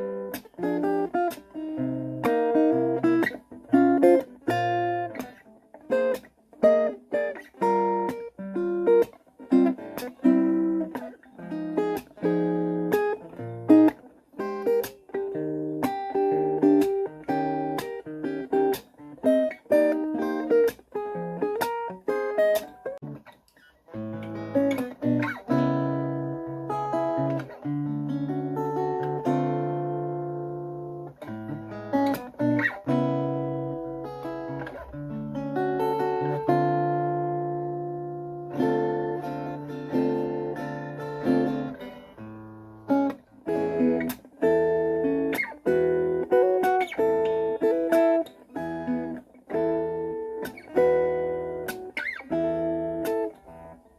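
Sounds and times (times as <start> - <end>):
electric guitar picked notes: 0.0 - 53.9
guitar chords strummed: 0.0 - 53.9.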